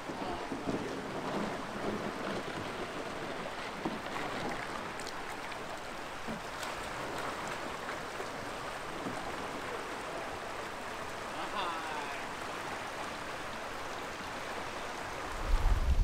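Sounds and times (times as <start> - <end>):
paddles splashing: 0.0 - 15.8
creek water rushing: 0.0 - 16.0.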